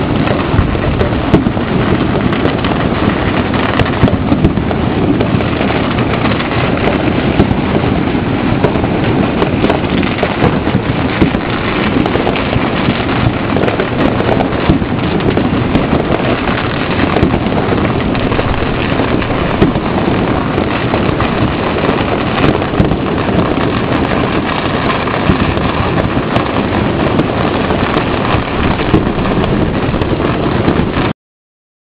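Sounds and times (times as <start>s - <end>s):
firecrackers crackling: 0.0s - 31.1s
sharp firework pops: 0.0s - 31.1s.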